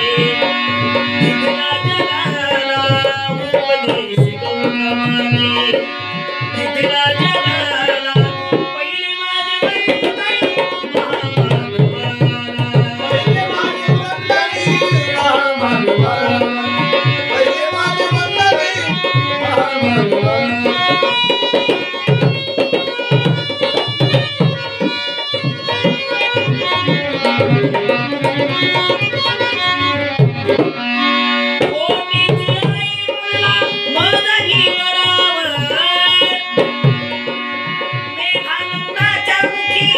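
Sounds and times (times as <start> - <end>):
instrumental melody: 0.0 - 39.9
tabla drumming: 0.0 - 39.9.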